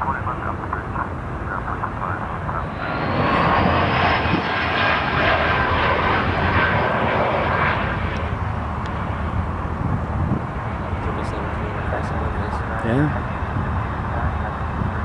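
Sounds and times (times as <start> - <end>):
jet engines rushing with whine: 0.0 - 15.0.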